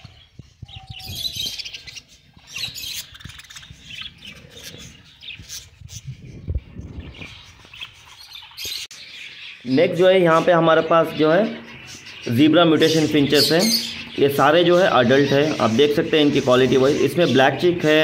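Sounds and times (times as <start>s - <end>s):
budgerigars chirping: 0.0s - 18.0s.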